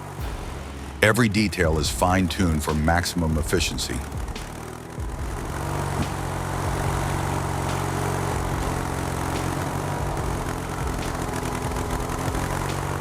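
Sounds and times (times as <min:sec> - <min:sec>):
log splitter engine running: 0:00.0 - 0:13.0.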